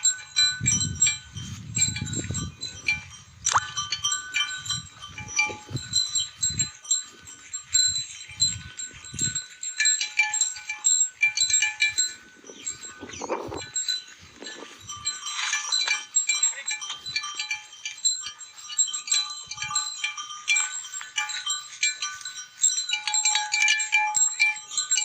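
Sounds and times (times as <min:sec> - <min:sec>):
livestock bells clinking: 0:00.0 - 0:25.0.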